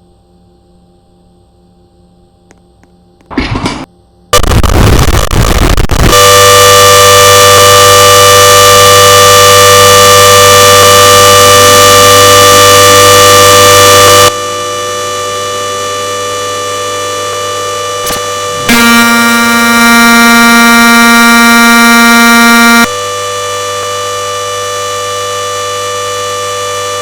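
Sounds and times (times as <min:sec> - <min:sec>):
washing machine spin whine: 0:00.0 - 0:04.3, 0:06.2 - 0:27.0.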